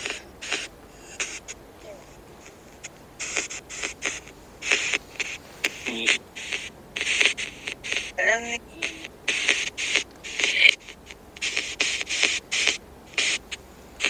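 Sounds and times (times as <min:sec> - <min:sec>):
choppy bursts of radio static: 0:00.0 - 0:14.0.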